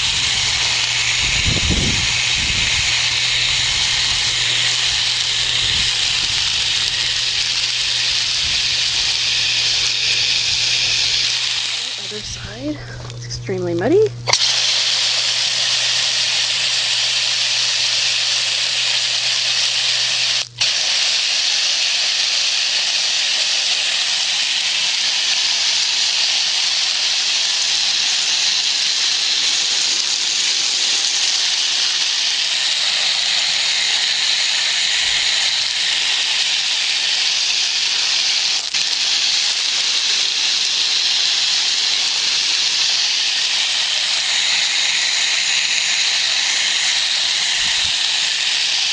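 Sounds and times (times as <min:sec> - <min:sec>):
hose sprayer hissing: 0:00.0 - 0:48.9.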